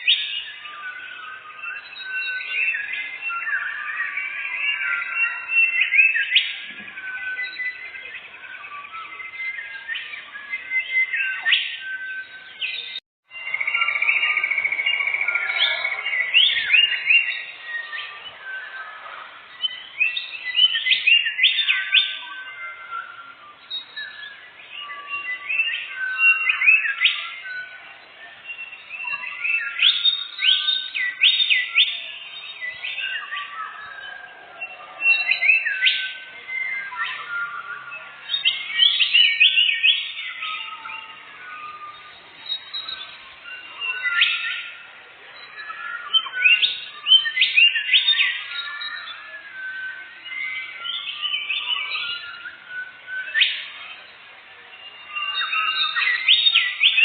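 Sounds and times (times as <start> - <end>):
songbird trilling and whistling: 0.0 - 57.0.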